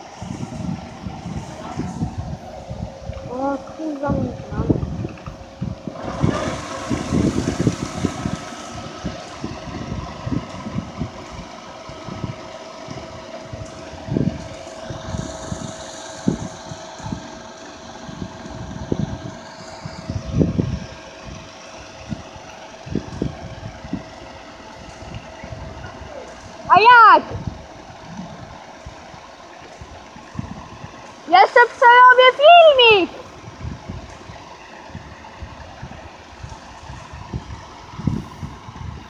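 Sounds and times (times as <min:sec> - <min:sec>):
low rumbling: 0:00.0 - 0:39.0
mechanical whine: 0:00.0 - 0:39.0
tractor engine under load: 0:00.0 - 0:39.0.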